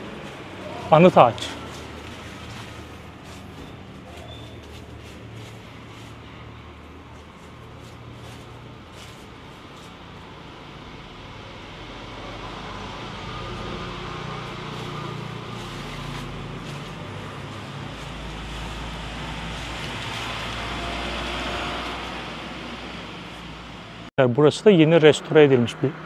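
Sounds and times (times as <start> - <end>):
vehicle engine and tyres rumbling: 0.0 - 26.0.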